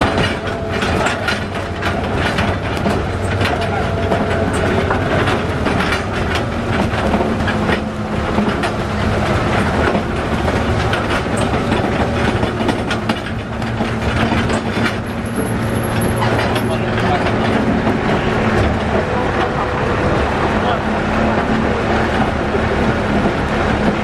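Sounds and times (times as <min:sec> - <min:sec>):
tractor engine running: 0:00.0 - 0:24.0
wagons clattering and knocking: 0:00.0 - 0:24.0.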